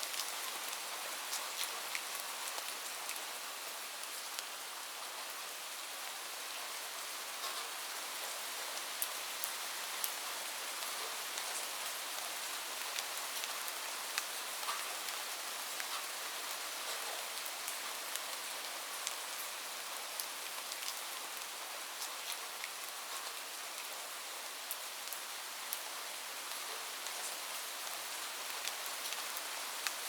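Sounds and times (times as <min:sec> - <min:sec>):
light rain falling: 0:00.0 - 0:30.0.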